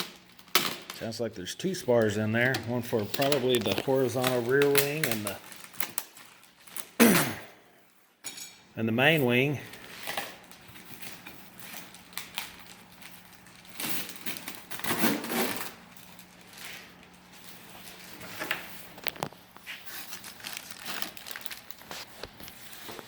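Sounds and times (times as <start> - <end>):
plastic wrap crinkling: 0.0 - 7.0, 9.3 - 23.0.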